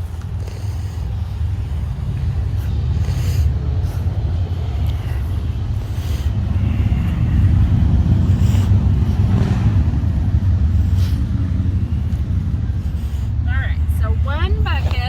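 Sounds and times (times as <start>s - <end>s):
loud low rumble: 1.1s - 14.7s.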